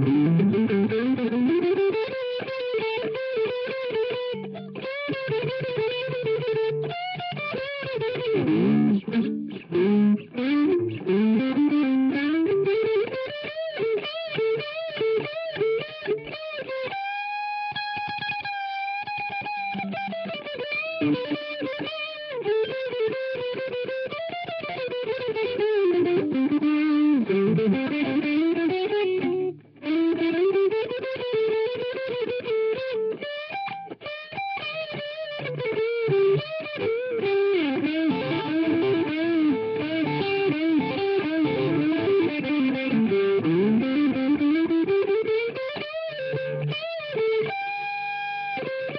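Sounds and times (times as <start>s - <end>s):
electric guitar lead solo: 0.0s - 48.9s.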